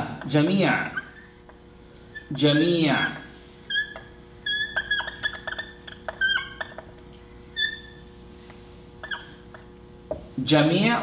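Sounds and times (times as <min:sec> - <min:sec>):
marker squeaking on whiteboard: 0:00.0 - 0:08.2, 0:09.0 - 0:09.7.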